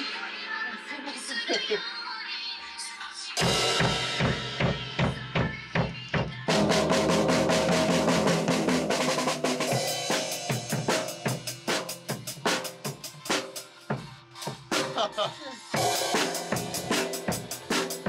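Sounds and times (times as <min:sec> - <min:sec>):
pop backing track: 0:02.8 - 0:18.0
drum kit played with sticks: 0:03.4 - 0:18.0.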